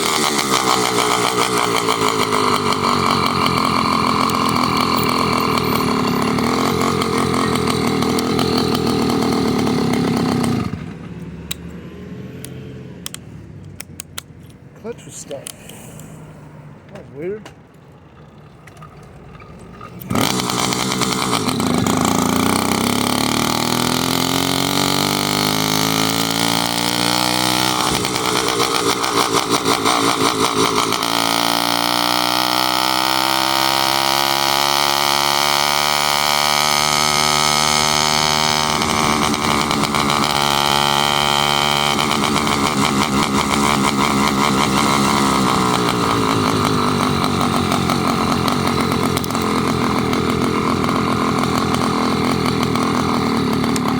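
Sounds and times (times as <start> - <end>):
small motorbike engine accelerating: 0.0 - 13.2, 19.6 - 53.9.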